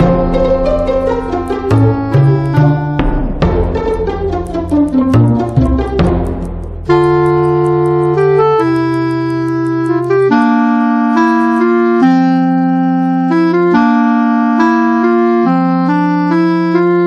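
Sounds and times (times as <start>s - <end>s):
keyboard playing held chords: 0.0s - 17.0s.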